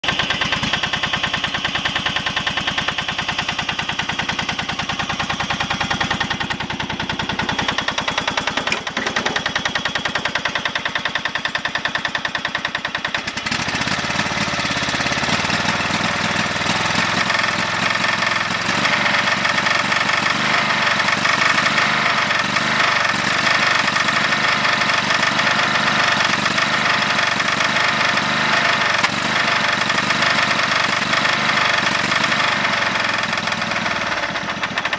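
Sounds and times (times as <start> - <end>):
tractor engine knocking: 0.0 - 34.9.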